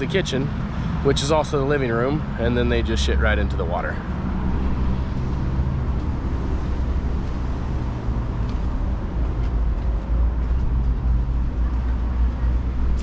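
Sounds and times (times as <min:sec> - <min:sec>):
urban background rumble: 0:00.0 - 0:13.0.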